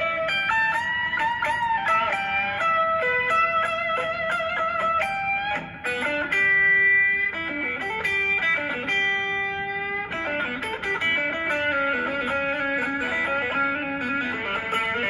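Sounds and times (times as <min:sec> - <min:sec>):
electric guitar blues riff: 0:00.0 - 0:15.0.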